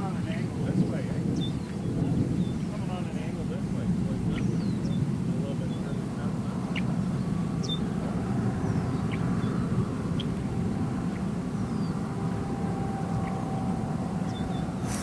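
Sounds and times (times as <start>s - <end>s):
distant hail roar: 0.0s - 15.0s.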